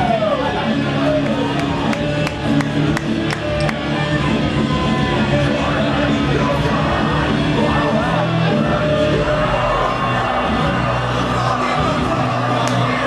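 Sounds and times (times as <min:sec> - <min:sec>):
bass guitar: 0:00.0 - 0:13.0
drums: 0:00.0 - 0:13.0.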